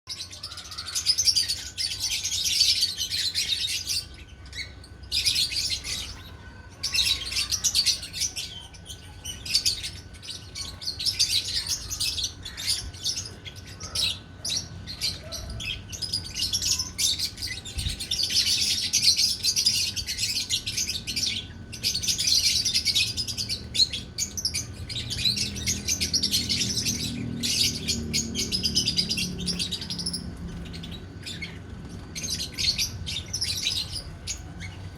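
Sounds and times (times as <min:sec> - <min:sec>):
lovebirds chirping shrilly: 0:00.1 - 0:34.9.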